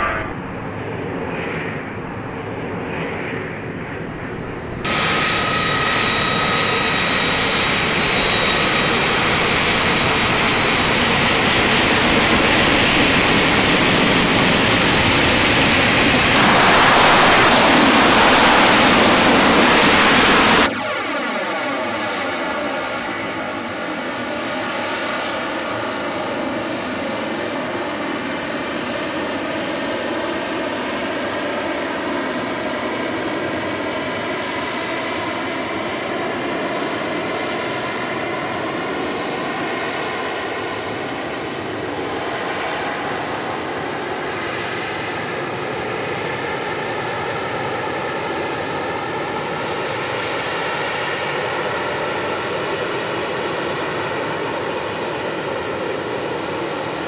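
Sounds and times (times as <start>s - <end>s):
jet engine roaring with whine: 0.0s - 57.0s.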